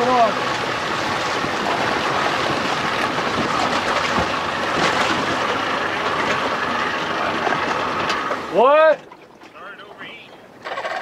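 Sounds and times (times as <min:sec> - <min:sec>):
wind and water rushing: 0:00.0 - 0:10.8
outboard motor running: 0:00.0 - 0:11.0.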